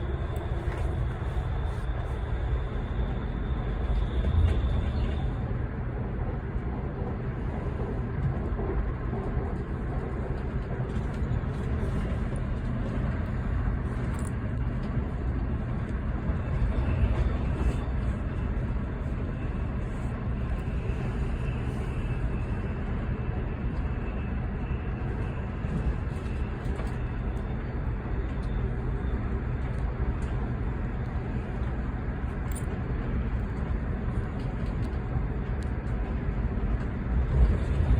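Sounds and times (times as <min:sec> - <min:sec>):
train rumbling at speed: 0:00.0 - 0:37.9.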